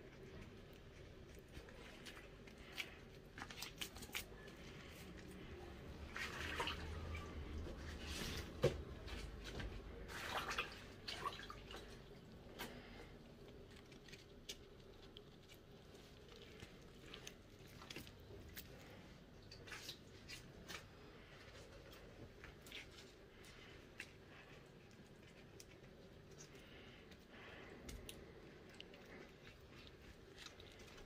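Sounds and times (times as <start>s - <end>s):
wet dough squishing: 0.0s - 31.0s.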